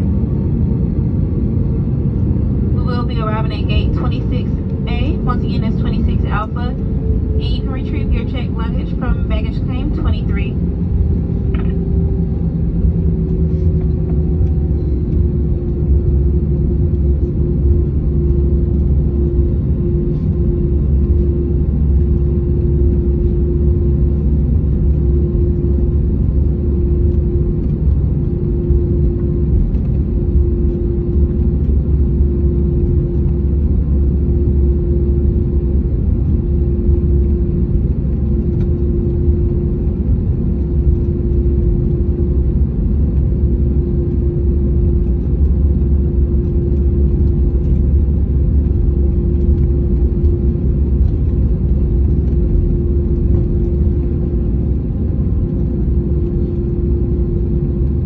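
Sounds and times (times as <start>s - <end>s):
droning hum: 0.0s - 58.0s
low rumble in airliner cabin: 0.0s - 58.0s.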